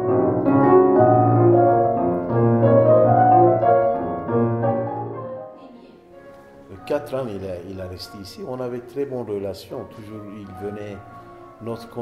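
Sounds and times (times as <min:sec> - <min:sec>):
grand piano playing: 0:00.0 - 0:12.0.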